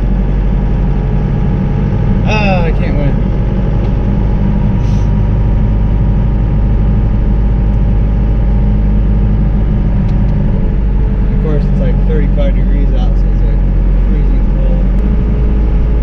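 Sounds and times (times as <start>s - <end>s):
diesel engine running: 0.0s - 16.0s
road noise: 0.0s - 16.0s.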